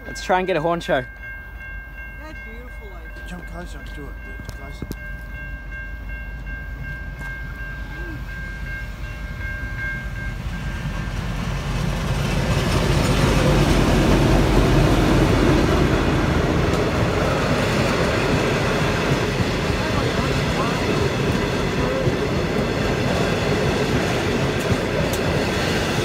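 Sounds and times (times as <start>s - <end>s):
diesel locomotive engine rumble: 0.0s - 26.0s
train wheels on rails: 2.5s - 26.0s.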